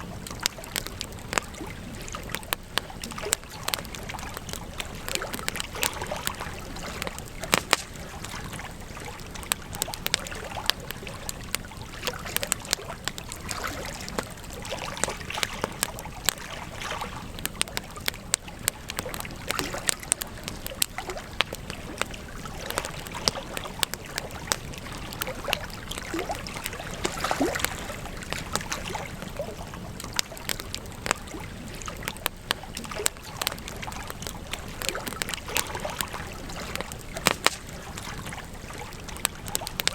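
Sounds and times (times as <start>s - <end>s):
fire hiss: 0.0s - 14.6s, 15.2s - 39.9s
campfire crackling and popping: 0.0s - 39.9s.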